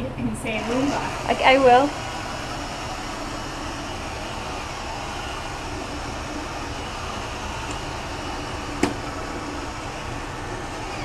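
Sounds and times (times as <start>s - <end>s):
robot vacuum whirring: 0.5s - 11.0s.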